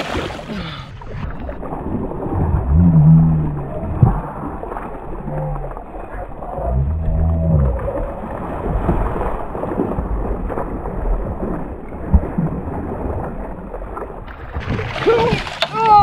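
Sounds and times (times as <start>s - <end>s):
fish splashing and thrashing in water: 0.0s - 16.0s.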